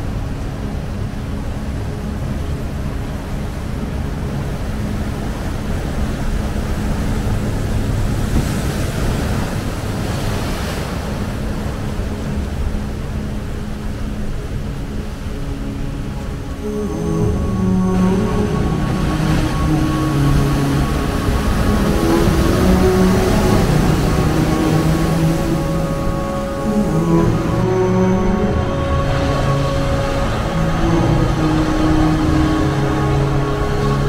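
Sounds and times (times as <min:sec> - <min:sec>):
surf breaking and washing: 0:00.0 - 0:34.0
wind rumbling on microphone: 0:00.0 - 0:34.0.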